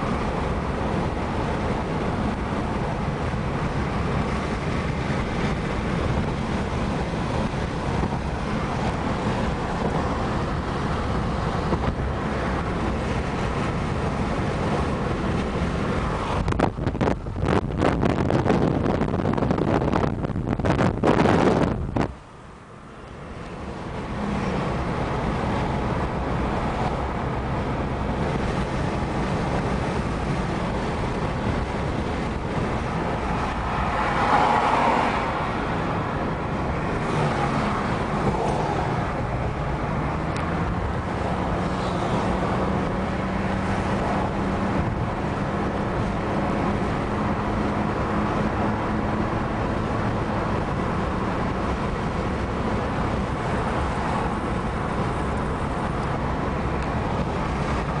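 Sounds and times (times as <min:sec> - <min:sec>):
car tyre and engine hum: 0:00.0 - 0:58.0.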